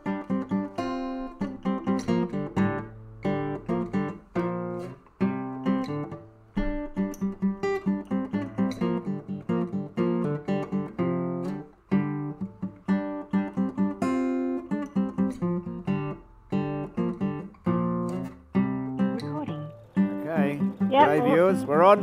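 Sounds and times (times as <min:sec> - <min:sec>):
acoustic guitar plucked notes: 0:00.0 - 0:22.0.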